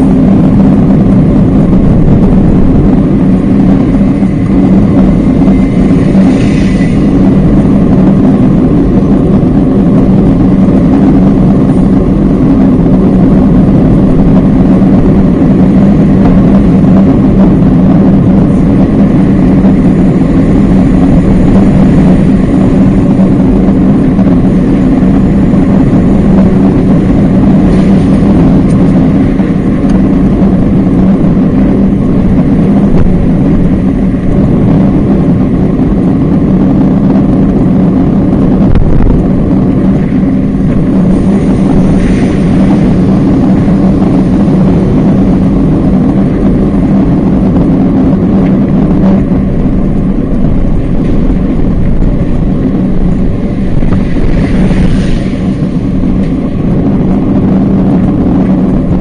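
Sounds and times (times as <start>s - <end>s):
bicycle riding noise: 0.0s - 59.0s
city traffic: 0.0s - 59.0s.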